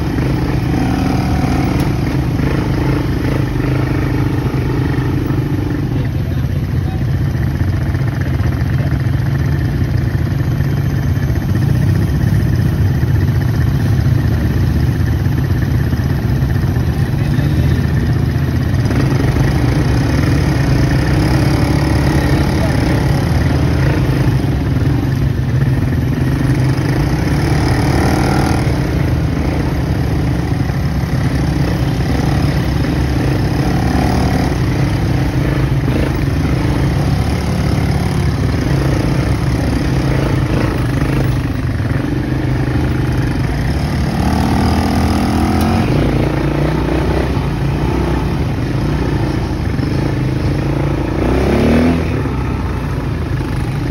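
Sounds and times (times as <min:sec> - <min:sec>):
atv engines running: 0:00.0 - 0:53.9.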